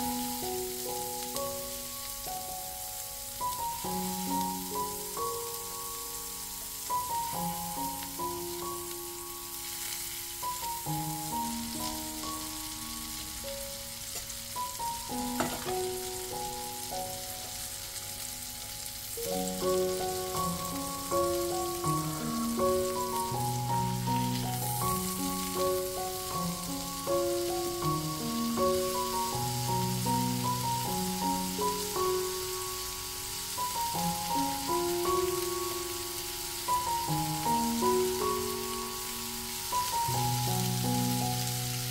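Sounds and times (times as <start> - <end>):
background music: 0.0 - 41.9
patties sizzling in oil: 0.0 - 41.9.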